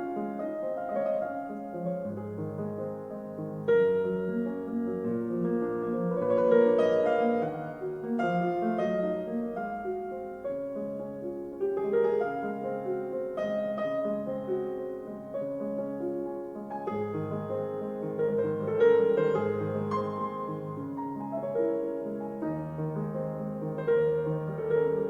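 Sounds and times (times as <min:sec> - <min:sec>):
piano music over loudspeakers: 0:00.0 - 0:25.0.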